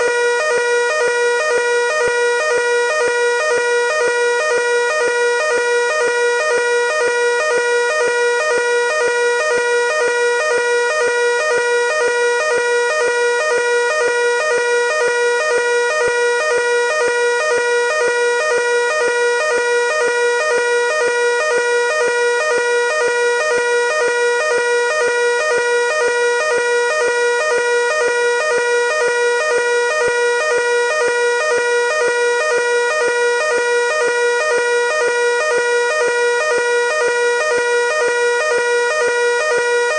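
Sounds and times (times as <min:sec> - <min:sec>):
fire alarm tone pulsing: 0:00.0 - 0:39.9.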